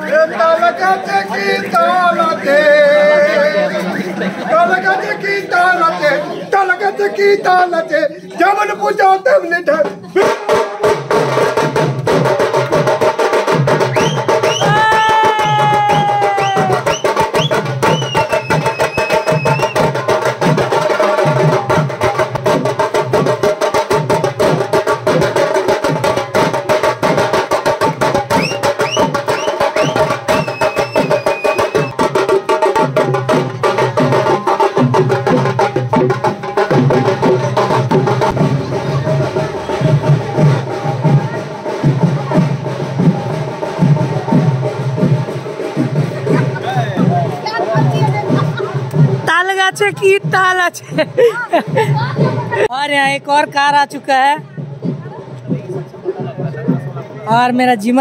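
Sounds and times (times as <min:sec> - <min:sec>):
drum beating fast rhythm: 0:08.4 - 0:58.0.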